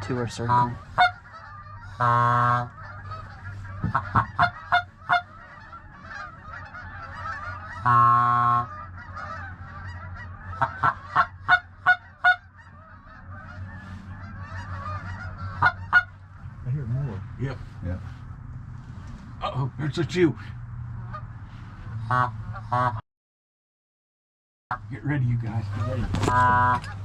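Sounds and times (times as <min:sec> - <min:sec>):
goose chatter: 0:00.0 - 0:23.0, 0:24.7 - 0:27.0
goose honking: 0:00.0 - 0:23.0, 0:24.7 - 0:27.0.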